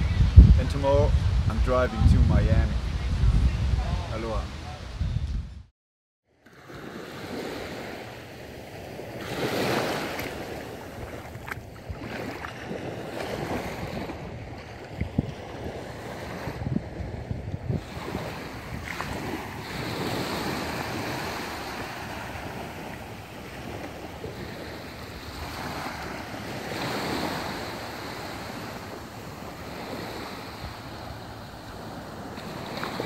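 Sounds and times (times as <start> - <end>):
wind buffeting microphone: 0.0 - 5.7, 8.4 - 33.0
surf washing over sand: 6.5 - 33.0.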